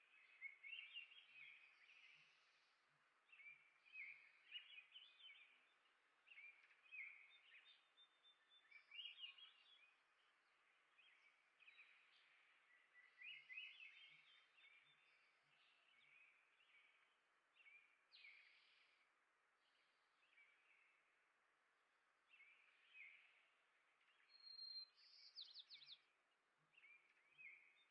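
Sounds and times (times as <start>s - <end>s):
songbirds chirping: 0.0s - 27.9s.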